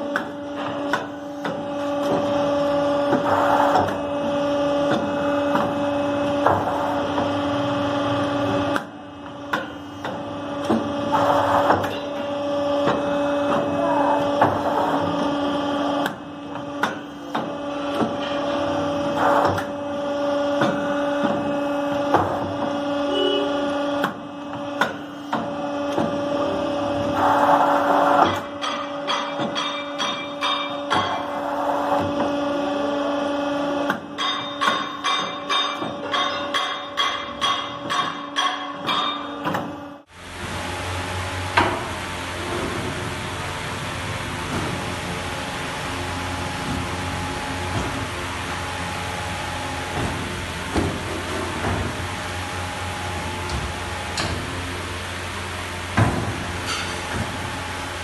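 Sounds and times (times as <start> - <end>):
machine humming: 0.0 - 36.3, 39.3 - 58.0.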